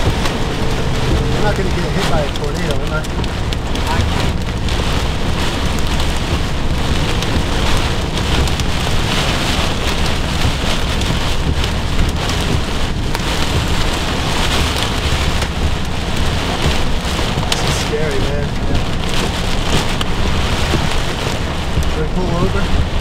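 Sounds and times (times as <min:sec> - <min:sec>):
continuous low rumble: 0:00.0 - 0:23.0
rain on vehicle roof: 0:00.0 - 0:23.0.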